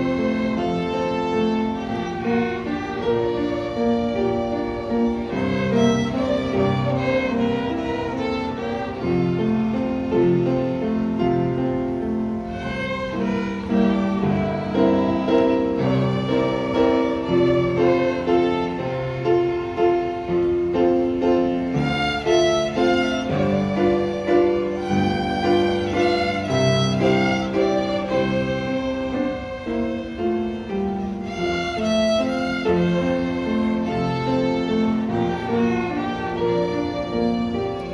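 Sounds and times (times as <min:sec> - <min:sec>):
violins bowing a melody: 0:00.0 - 0:37.9.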